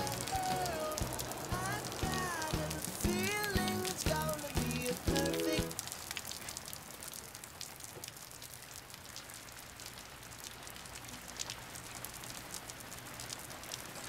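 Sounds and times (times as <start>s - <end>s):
rain pattering: 0.0s - 14.0s.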